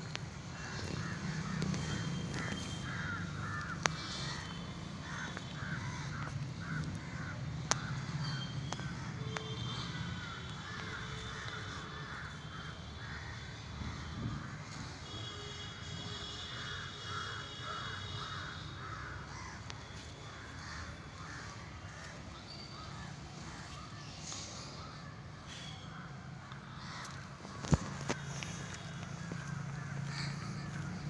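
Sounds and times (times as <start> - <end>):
crows cawing: 0.5 - 15.2, 16.3 - 31.0.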